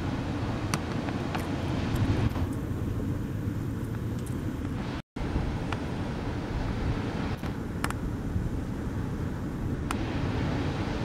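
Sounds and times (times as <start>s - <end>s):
ocean surf: 0.0s - 11.0s
wind on microphone: 0.0s - 11.0s.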